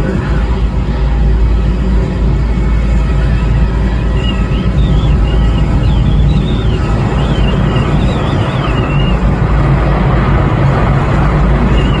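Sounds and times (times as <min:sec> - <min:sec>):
high wavering tone: 0:00.0 - 0:09.6
jet engines rumbling: 0:00.0 - 0:12.0
wind buffeting microphone: 0:00.0 - 0:12.0.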